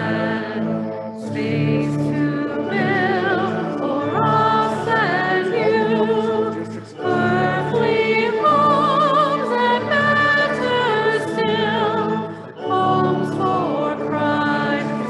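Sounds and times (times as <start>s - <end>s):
person singing a hymn: 0.0s - 15.0s.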